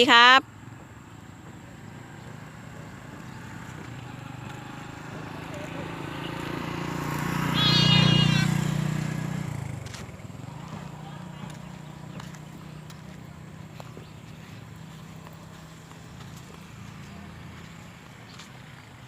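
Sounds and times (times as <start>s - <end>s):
motor engine passing by: 0.5s - 19.0s
engine whine: 0.8s - 19.0s.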